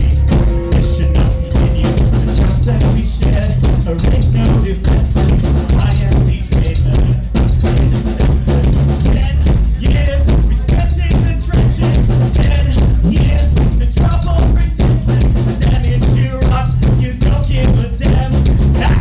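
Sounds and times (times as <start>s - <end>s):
electric guitar: 0.0s - 17.0s
drum kit: 0.0s - 19.0s
electric bass: 0.0s - 19.0s.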